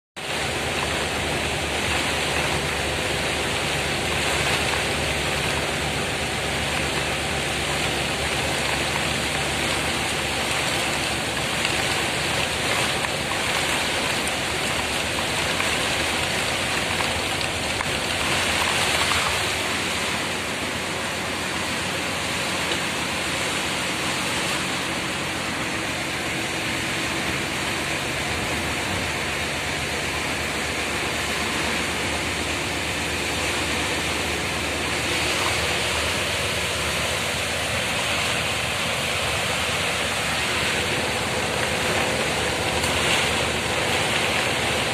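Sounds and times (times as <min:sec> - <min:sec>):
heavy rain and road spray: 0:00.2 - 0:44.9
low bus engine hum: 0:00.2 - 0:44.9.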